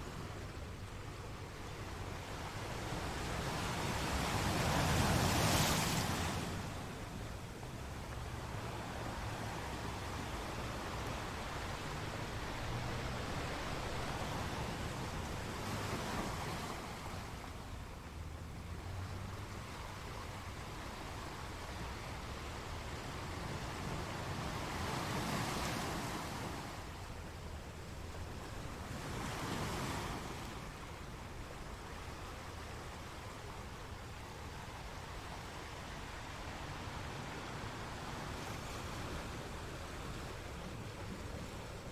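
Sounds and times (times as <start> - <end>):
ocean surf rushing: 0.0 - 41.9.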